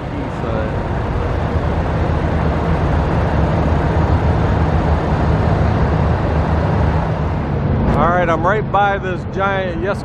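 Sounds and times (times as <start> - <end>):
low rumble: 0.0 - 9.8.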